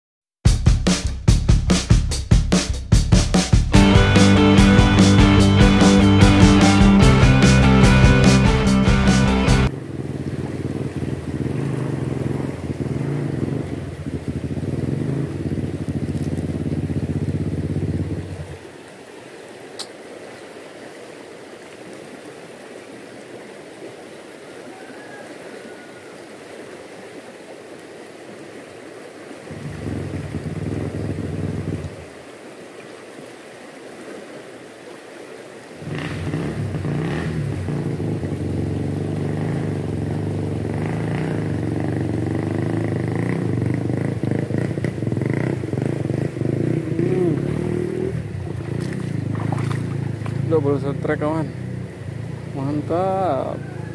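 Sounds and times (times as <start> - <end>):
stream rushing: 3.7 - 53.9.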